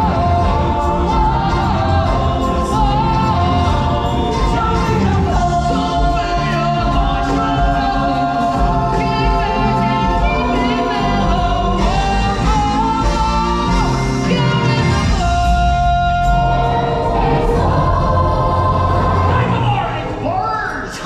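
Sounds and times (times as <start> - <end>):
people singing: 0.0 - 20.3
backing music: 0.0 - 21.0.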